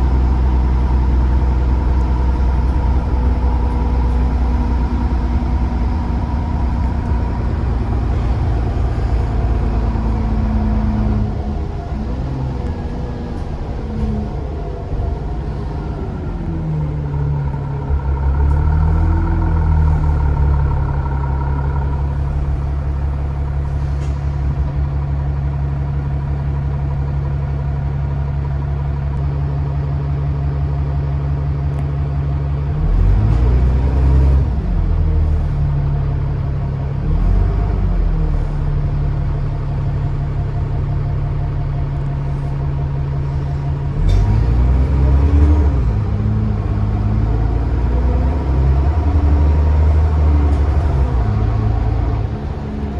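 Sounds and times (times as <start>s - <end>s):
bus diesel engine: 0.0s - 52.9s.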